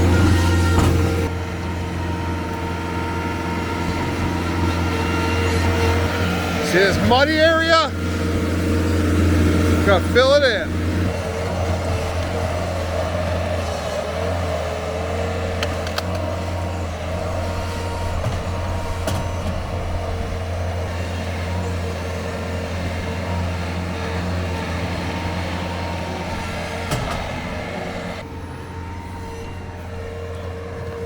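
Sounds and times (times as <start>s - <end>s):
diesel engine running under work: 0.0s - 31.0s.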